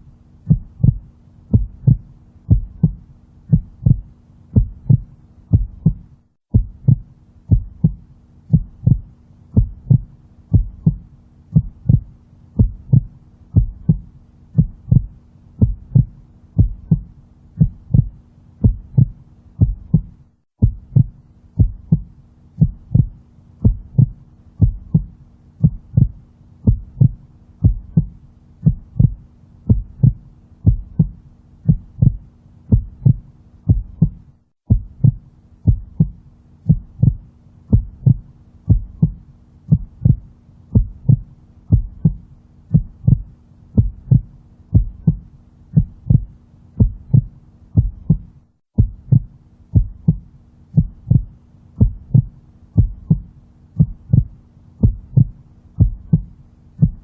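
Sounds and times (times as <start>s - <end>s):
faint low hum: 0.0s - 57.0s
heartbeat thumps: 0.4s - 57.0s.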